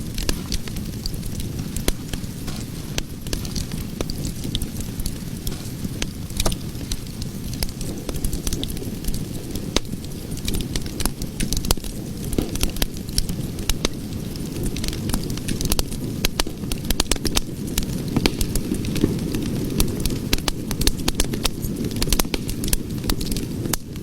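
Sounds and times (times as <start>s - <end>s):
fire burning with crackles and pops: 0.0s - 24.0s.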